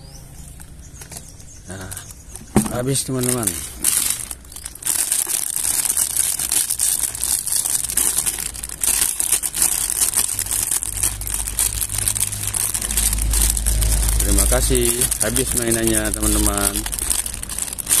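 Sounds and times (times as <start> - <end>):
plastic bag crinkling: 1.0 - 18.0.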